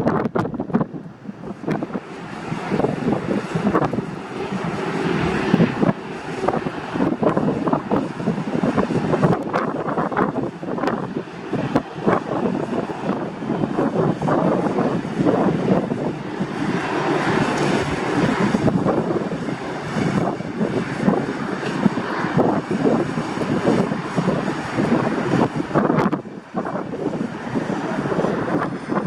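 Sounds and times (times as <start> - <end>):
airliner engine rumble: 0.0 - 29.0
wind buffeting microphone: 0.0 - 29.0.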